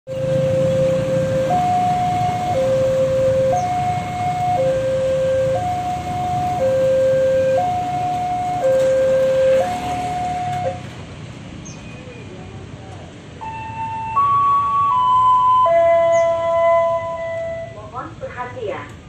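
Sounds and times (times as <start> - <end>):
two-tone level crossing alarm: 0.1 - 11.0, 13.4 - 17.9
motorbike and car traffic: 0.1 - 19.0.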